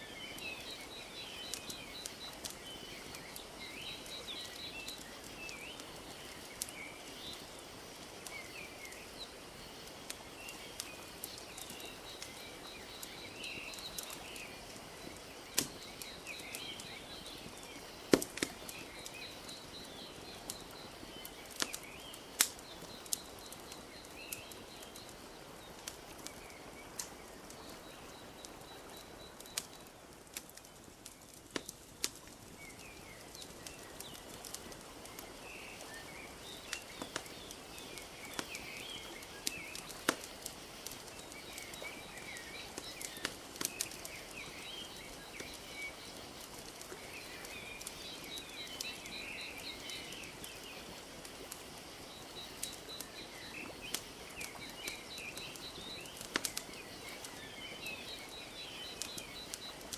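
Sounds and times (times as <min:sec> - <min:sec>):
small birds chirping: 0:00.0 - 0:59.9
wood fire crackling and popping: 0:00.0 - 0:59.9.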